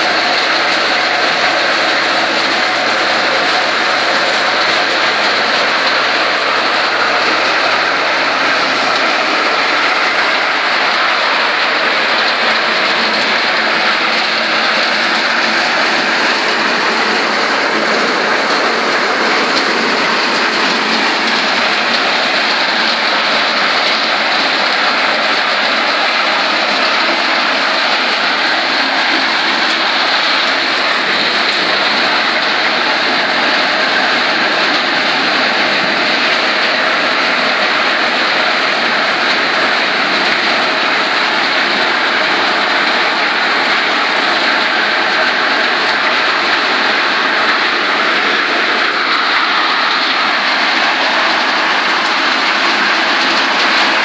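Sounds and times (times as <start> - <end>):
thresher rushing noise: 0.0 - 54.0.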